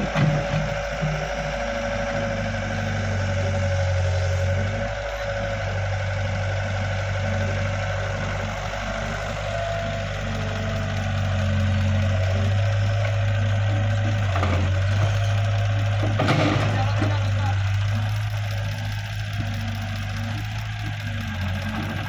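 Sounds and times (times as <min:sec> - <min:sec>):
excavator diesel engine: 0:00.0 - 0:22.0.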